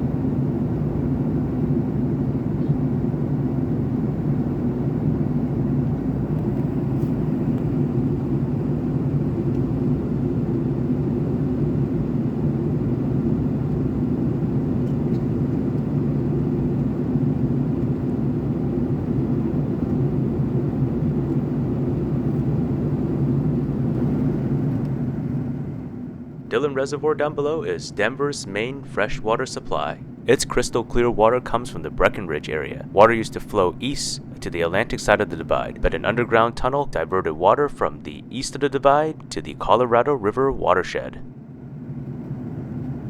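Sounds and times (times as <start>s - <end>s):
aircraft cabin drone: 0.0s - 43.0s.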